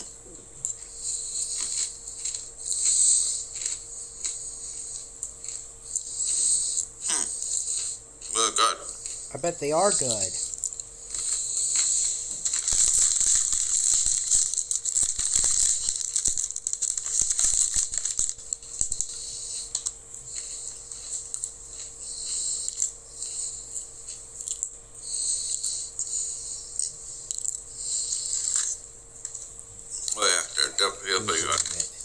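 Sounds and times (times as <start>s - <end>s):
cookie crunching and chewing: 0.0s - 32.0s.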